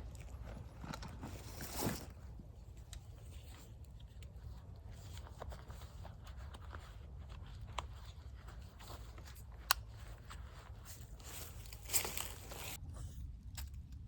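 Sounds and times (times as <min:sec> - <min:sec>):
rustling: 0:00.3 - 0:12.8.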